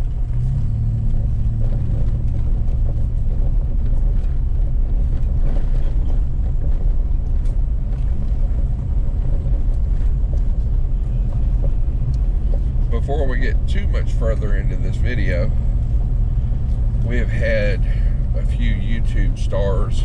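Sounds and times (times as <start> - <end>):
truck engine and tyres rumbling: 0.0 - 20.0.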